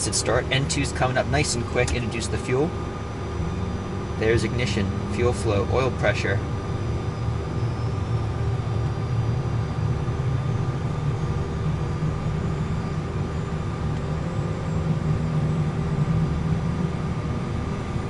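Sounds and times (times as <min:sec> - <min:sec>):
jet engine rumble and whine: 0:00.0 - 0:18.0.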